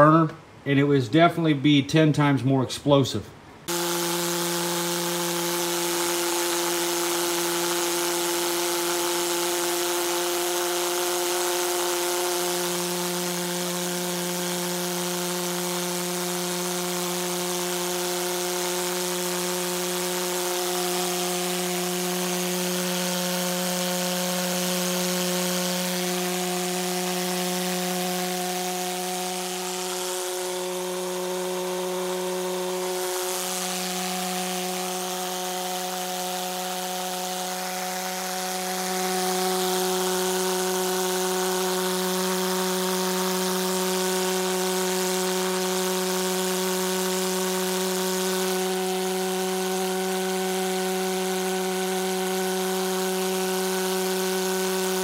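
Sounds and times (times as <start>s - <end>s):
pulse jet engine buzzing drone: 3.6s - 55.0s.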